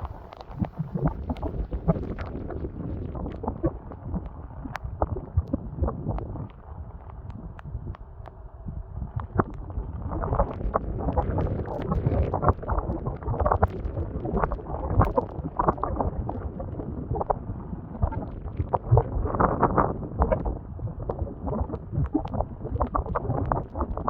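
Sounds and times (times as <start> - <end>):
sharp crackles and flaps: 0.0 - 24.0
strong wind buffeting microphone: 0.0 - 24.0.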